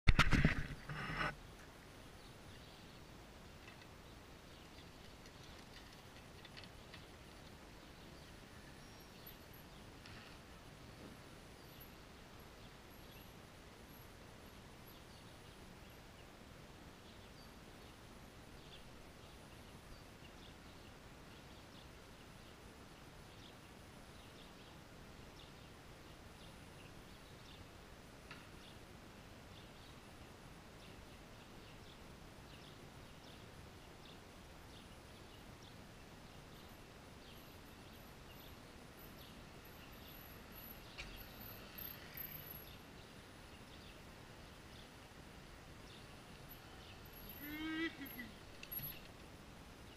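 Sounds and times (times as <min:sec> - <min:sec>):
faint outdoor background noise: 0:00.0 - 0:49.9.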